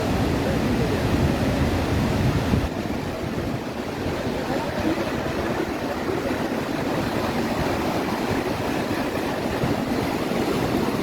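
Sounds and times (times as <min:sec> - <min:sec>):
ocean surf washing: 0:00.0 - 0:11.0
wind buffeting microphone: 0:00.0 - 0:11.0.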